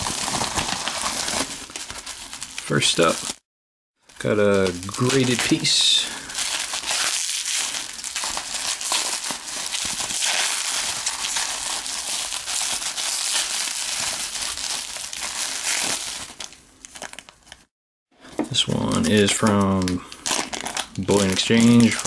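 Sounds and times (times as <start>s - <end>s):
bubble wrap crinkling and crackling: 0.0s - 3.4s, 4.0s - 17.7s, 18.5s - 22.0s.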